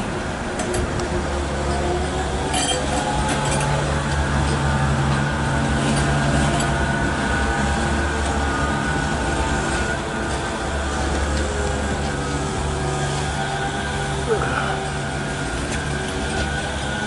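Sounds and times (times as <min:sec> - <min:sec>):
tram running gear humming: 0:00.0 - 0:17.0.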